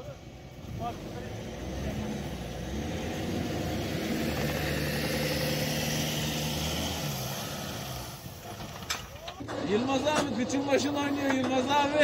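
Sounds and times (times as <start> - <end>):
engines running under load: 0.0 - 12.0
tyres churning snow: 0.1 - 12.0.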